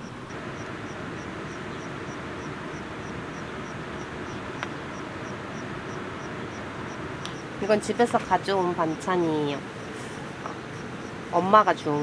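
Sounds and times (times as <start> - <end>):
insect chirping: 0.0 - 12.0
steady outdoor hiss: 0.0 - 12.0.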